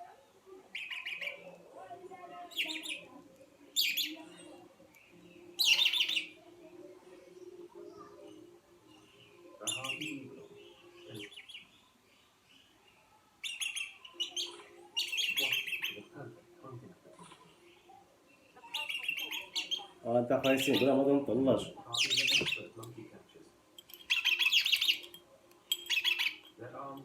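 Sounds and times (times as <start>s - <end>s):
parrots chirping: 0.7s - 1.6s, 2.4s - 16.2s, 17.1s - 22.8s, 23.7s - 26.6s.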